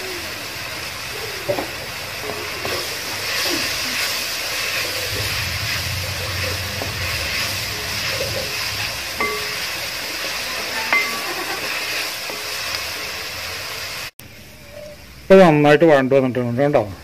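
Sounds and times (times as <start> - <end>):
onions sizzling in hot oil: 0.0 - 15.3.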